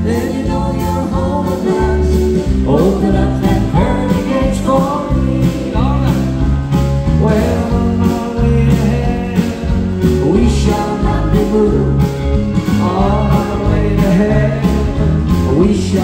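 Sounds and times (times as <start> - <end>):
live country-gospel band: 0.0 - 16.0
man singing: 0.0 - 16.0
steady drum beat: 0.0 - 16.0.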